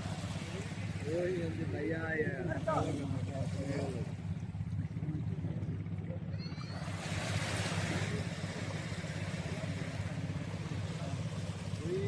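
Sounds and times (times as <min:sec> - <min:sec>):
boat motor engine droning: 0:00.0 - 0:12.0.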